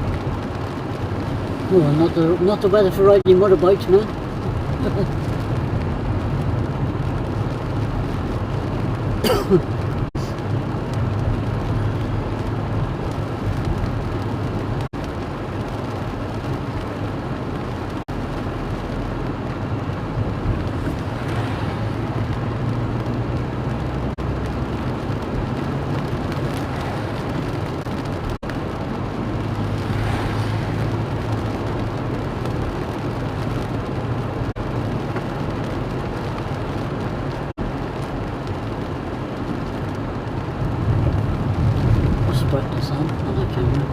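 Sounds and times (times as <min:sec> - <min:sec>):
car road and engine noise: 0:00.0 - 0:43.9.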